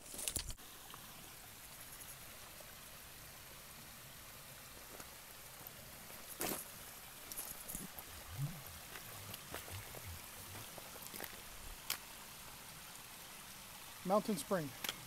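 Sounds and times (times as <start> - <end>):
spring water trickling over stones: 0.0 - 15.0.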